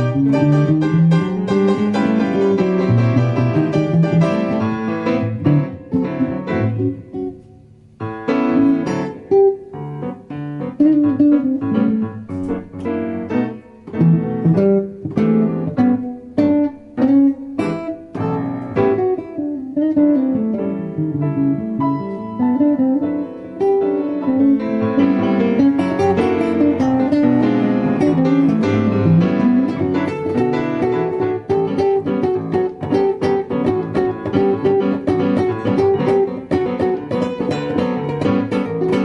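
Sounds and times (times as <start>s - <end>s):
blues guitar: 0.0s - 39.0s
piano: 0.0s - 39.0s.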